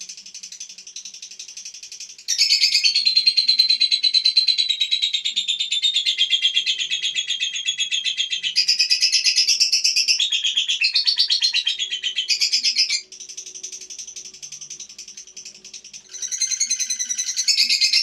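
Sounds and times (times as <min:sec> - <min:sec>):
lovebird chattering trill: 0:00.0 - 0:18.0.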